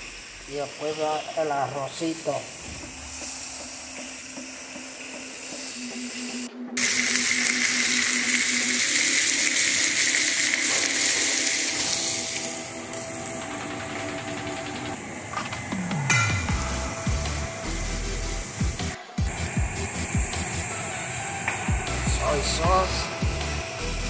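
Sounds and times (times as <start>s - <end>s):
food sizzling in frying: 0.0s - 24.0s.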